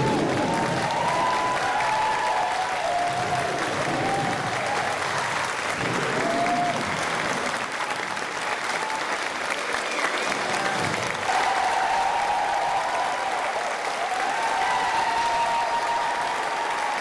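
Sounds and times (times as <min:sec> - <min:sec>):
audience applauding: 0:00.0 - 0:17.0
calls from audience: 0:00.0 - 0:17.0.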